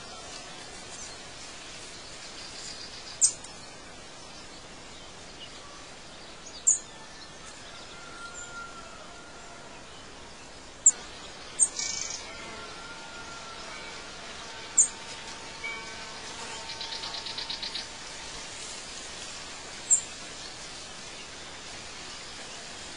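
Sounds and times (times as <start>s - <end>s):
birds chirping: 0.0s - 22.9s
steady hiss: 0.0s - 22.9s.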